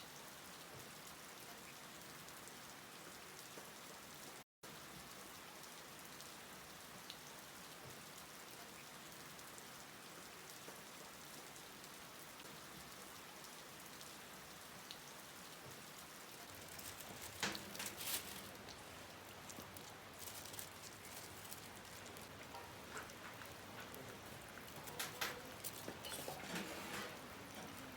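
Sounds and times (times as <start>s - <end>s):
light rain pattering: 0.0s - 27.9s.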